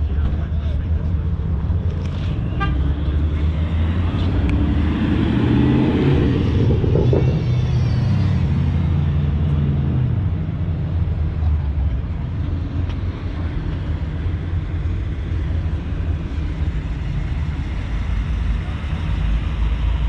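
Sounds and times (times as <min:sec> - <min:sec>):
vehicle engine low rumble: 0:00.0 - 0:20.0.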